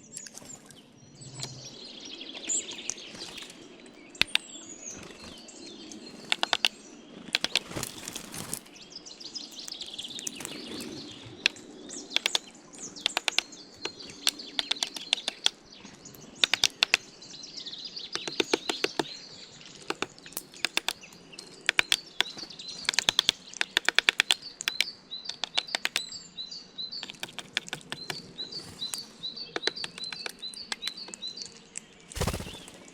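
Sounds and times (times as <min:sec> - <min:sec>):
birds chirping: 0:00.0 - 0:32.9
birds pecking seed: 0:00.0 - 0:32.9.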